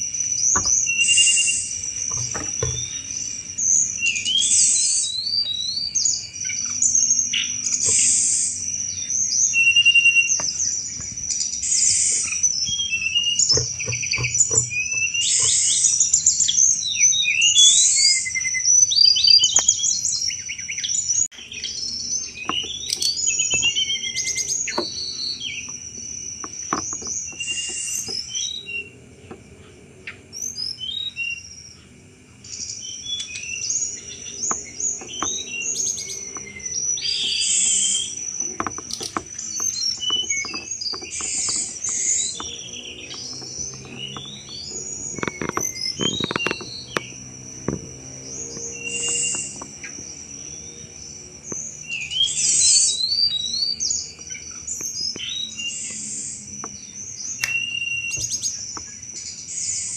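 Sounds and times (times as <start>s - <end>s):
bird singing with chattering chirps: 0.0s - 59.9s.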